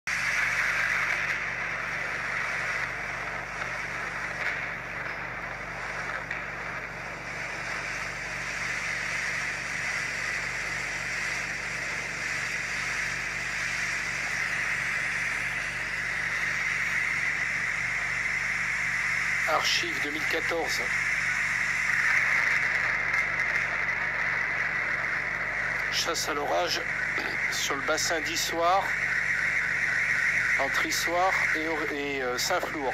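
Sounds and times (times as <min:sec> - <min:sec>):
constant hiss: 0:00.1 - 0:32.9.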